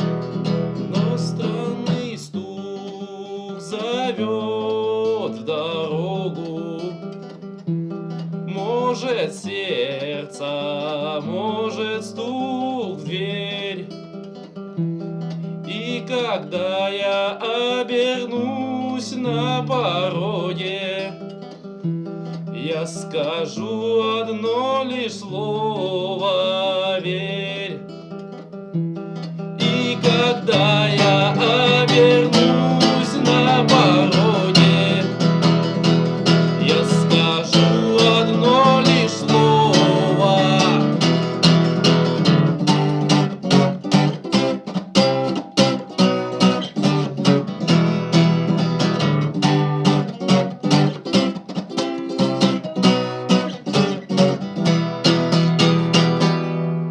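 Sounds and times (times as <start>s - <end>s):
acoustic guitar strumming chords: 0.0s - 56.9s.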